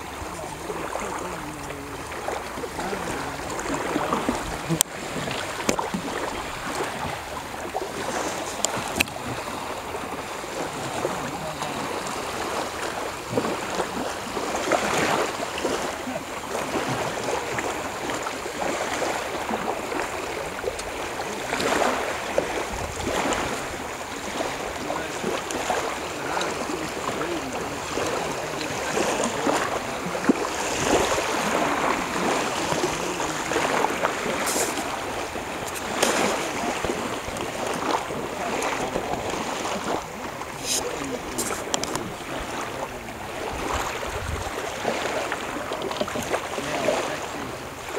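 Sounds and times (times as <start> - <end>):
shallow water lapping and sloshing: 0.0 - 47.9.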